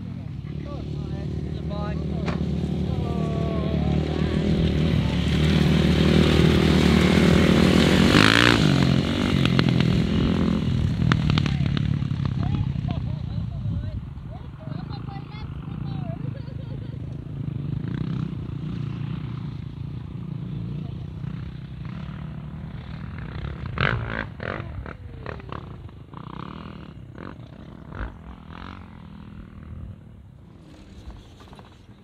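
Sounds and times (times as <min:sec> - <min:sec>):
vehicle engine and tyres rumbling: 0:00.0 - 0:32.0.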